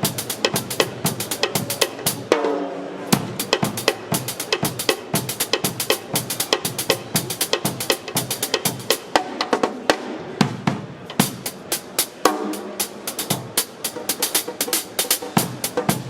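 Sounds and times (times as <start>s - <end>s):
drum kit playing groove: 0.0s - 16.0s.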